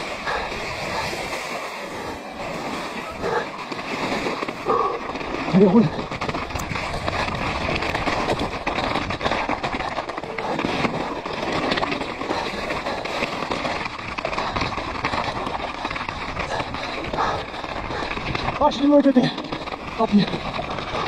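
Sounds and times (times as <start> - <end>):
bike tyres crunching on rock: 0.0 - 21.0.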